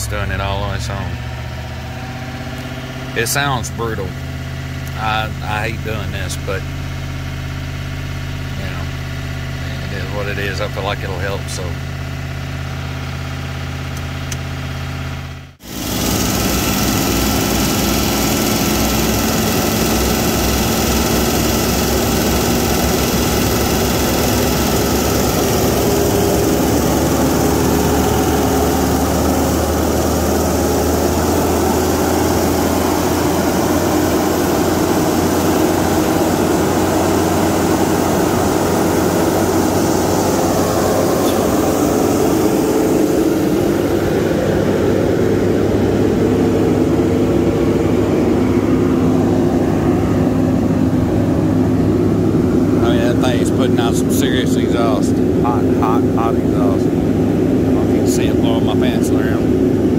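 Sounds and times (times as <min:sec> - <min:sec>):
diesel engine idling: 0:00.0 - 0:59.9
engine whine: 0:00.0 - 0:59.9.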